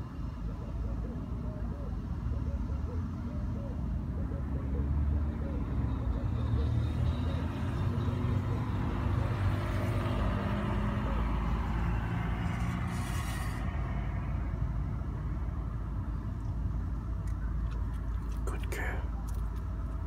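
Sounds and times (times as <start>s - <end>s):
vehicles driving past: 0.0s - 20.0s.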